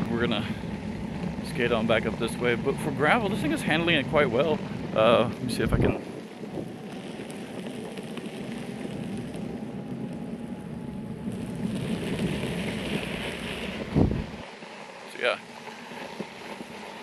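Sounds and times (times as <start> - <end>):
wheels rolling over gravel: 0.0 - 17.0.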